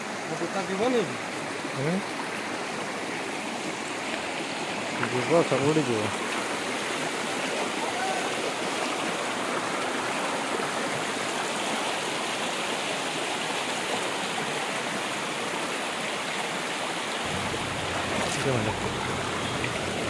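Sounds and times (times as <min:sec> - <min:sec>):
stream splashing over stones: 0:00.0 - 0:20.0.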